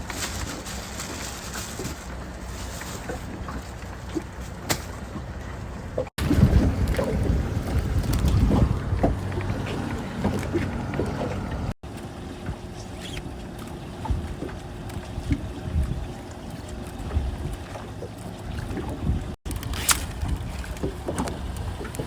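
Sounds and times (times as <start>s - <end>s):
boat motor running: 0.0s - 22.0s
water noise: 0.0s - 22.0s
wind: 0.0s - 22.0s.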